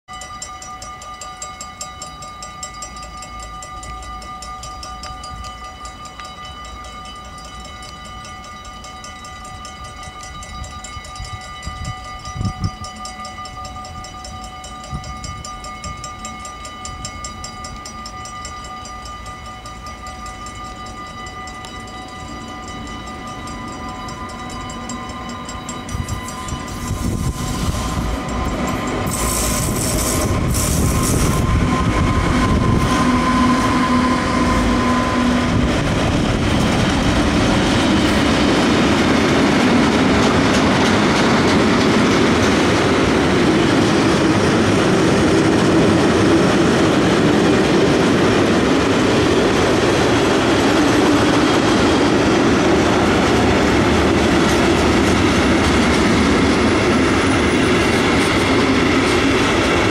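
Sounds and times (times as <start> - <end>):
freight train rumble: 0.1 - 59.9
level crossing warning bell: 0.1 - 59.9.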